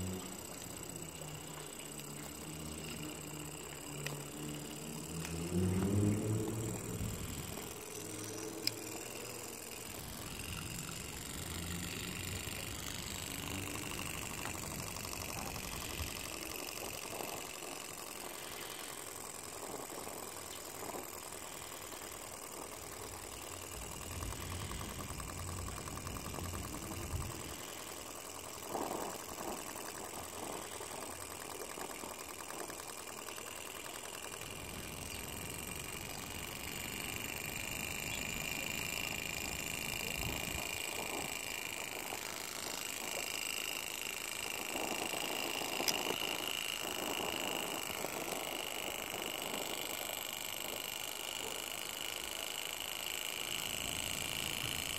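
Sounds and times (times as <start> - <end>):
small engine ticking whir: 0.0 - 54.9.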